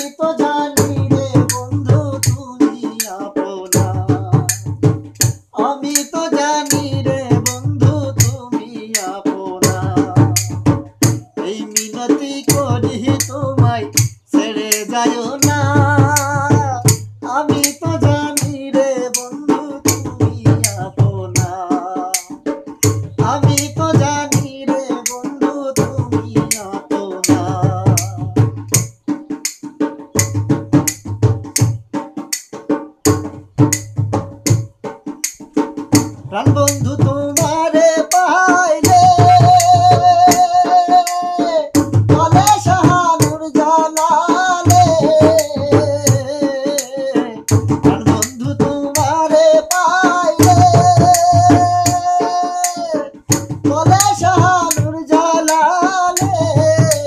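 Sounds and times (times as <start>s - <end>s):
hand drum fast beat: 0.0s - 57.0s
sharp clicking percussion: 0.0s - 57.0s.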